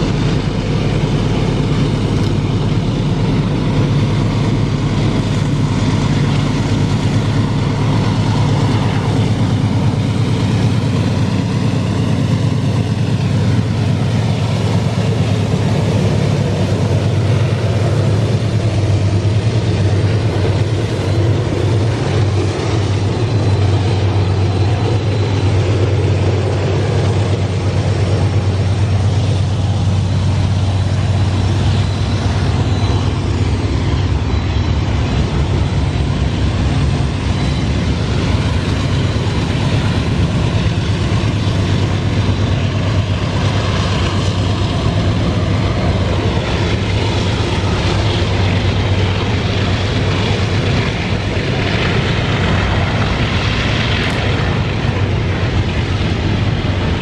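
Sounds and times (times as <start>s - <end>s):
diesel locomotives engine drone: 0.0s - 57.0s.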